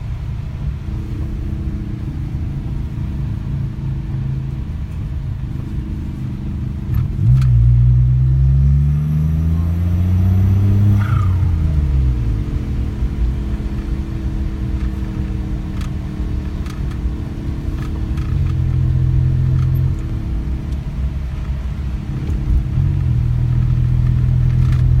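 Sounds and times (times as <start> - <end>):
low engine drone: 0.0 - 25.0.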